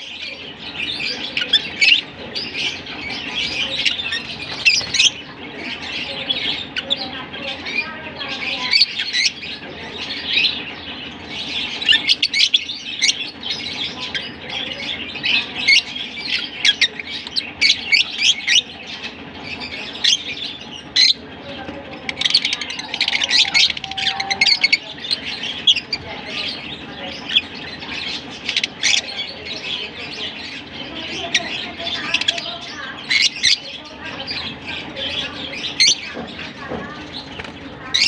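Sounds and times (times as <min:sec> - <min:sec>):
lovebirds chirping and squawking: 0:00.0 - 0:38.0.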